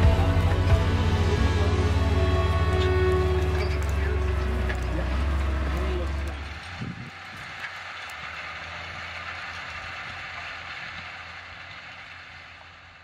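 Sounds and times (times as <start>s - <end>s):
low tractor engine drone: 0.0s - 13.0s.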